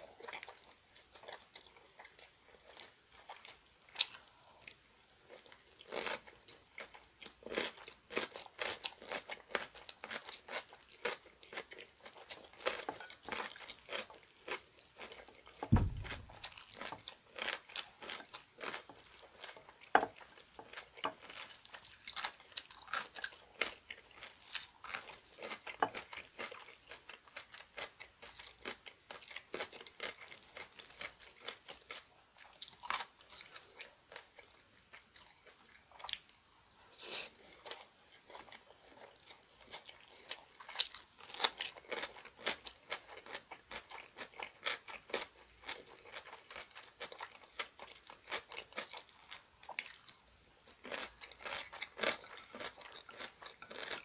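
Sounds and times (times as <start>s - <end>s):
chewing with crunches: 0.0s - 54.0s.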